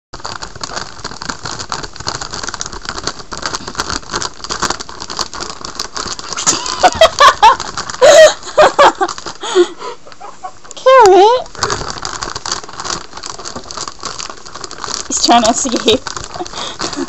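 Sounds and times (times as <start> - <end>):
hamster scrabbling: 0.2 - 8.0, 10.1 - 17.0
foil bag crinkling: 0.2 - 17.0.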